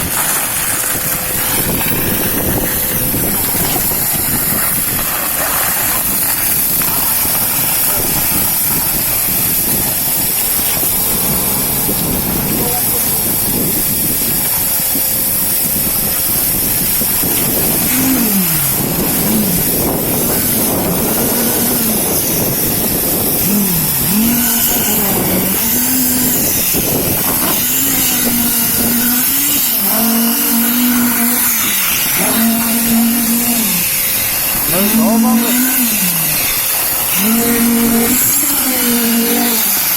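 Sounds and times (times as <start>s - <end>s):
concrete pump engine running: 0.0s - 39.9s.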